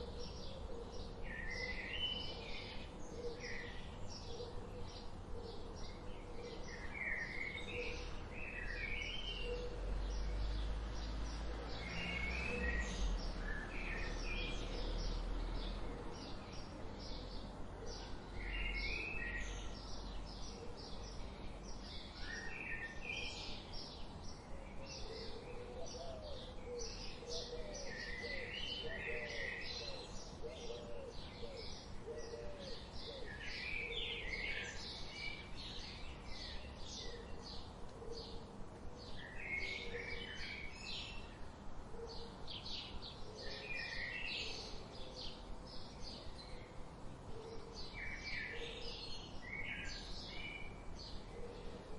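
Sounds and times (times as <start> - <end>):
faint background hiss: 0.0 - 51.9
songbirds chirping and singing: 0.0 - 51.9.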